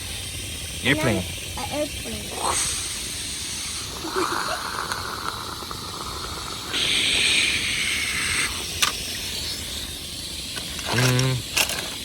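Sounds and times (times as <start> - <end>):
spraying water hiss: 0.0 - 12.0.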